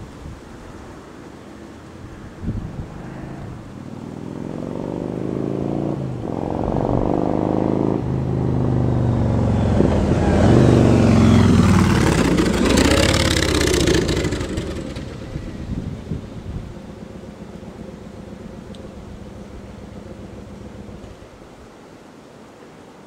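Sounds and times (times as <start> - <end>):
motorcycle accelerating past: 2.1 - 21.3.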